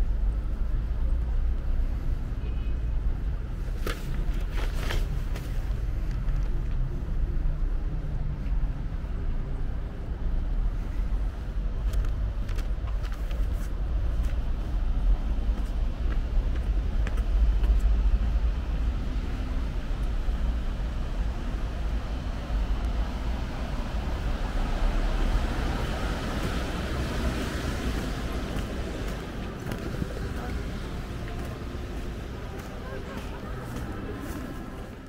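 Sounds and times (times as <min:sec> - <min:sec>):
city background rumble: 0:00.0 - 0:35.0.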